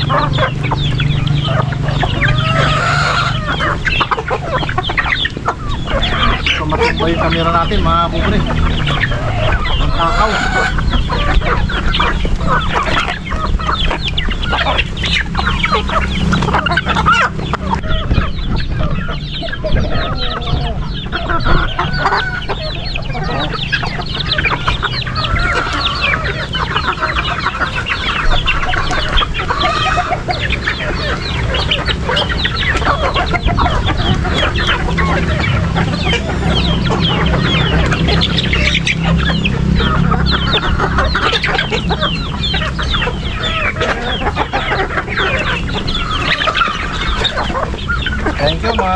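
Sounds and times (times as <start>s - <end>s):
chickens clucking: 0.0s - 48.9s
steady low rumble: 0.0s - 48.9s.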